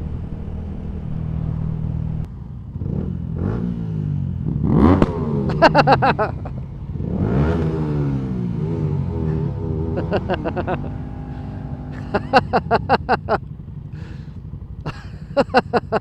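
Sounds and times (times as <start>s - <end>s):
exhaust pulses: 0.0s - 16.0s
motorcycle engine revving: 0.0s - 16.0s.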